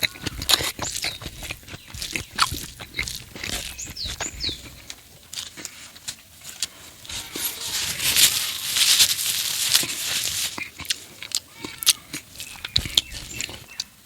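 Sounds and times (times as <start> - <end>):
wet eating smacks: 0.0 - 13.9.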